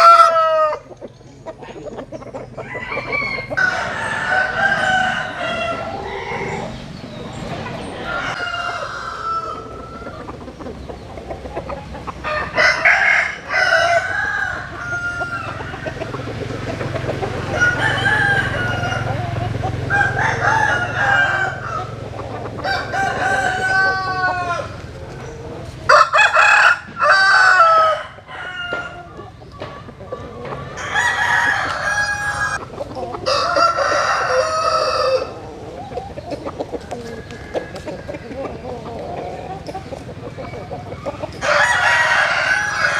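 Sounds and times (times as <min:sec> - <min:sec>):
hens clucking: 0:00.0 - 0:42.9
roosters crowing: 0:00.0 - 0:42.9.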